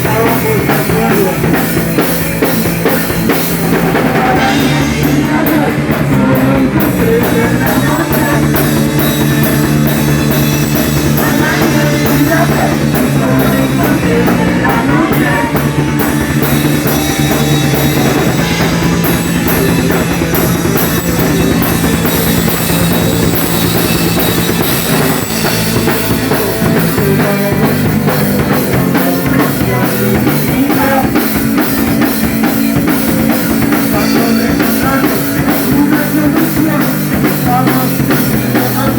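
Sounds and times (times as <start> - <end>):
drum kit beating: 0.0 - 38.9
rock band playing: 0.0 - 38.9.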